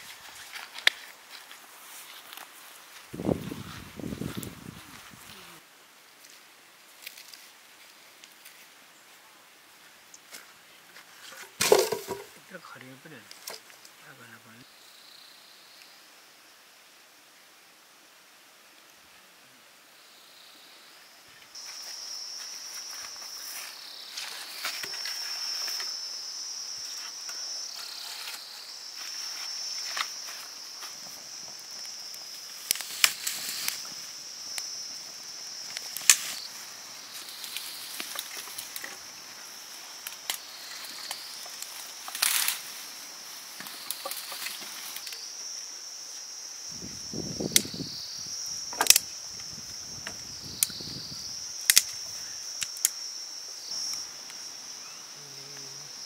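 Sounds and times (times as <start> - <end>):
high-pitched insect chorus: 0.0 - 18.4, 19.2 - 56.0.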